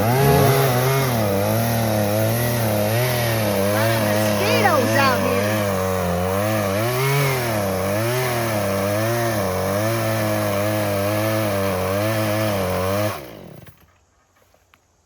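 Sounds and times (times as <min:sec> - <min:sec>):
chainsaw engine running: 0:00.0 - 0:13.9.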